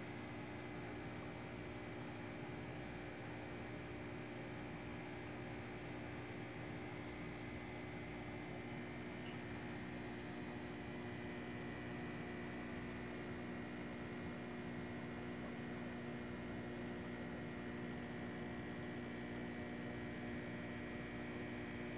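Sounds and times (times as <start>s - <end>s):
electrical hum: 0.0s - 21.9s.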